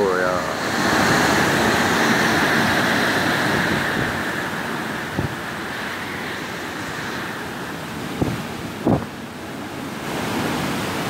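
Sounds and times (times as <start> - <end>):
wind and rain: 0.0 - 11.0
wind buffeting microphone: 0.0 - 11.0.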